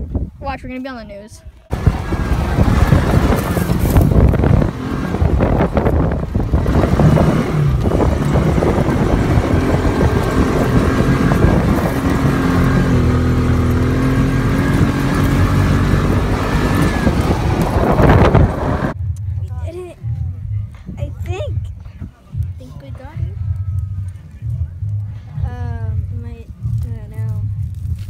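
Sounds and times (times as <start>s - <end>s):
off-road vehicle engine rumbling: 1.3s - 28.0s.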